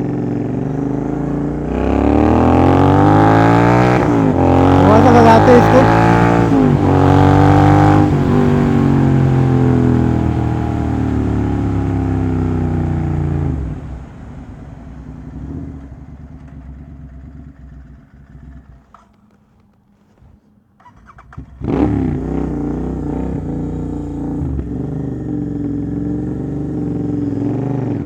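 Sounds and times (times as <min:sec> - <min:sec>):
motorcycle engine revving: 0:00.0 - 0:19.3, 0:20.8 - 0:28.0.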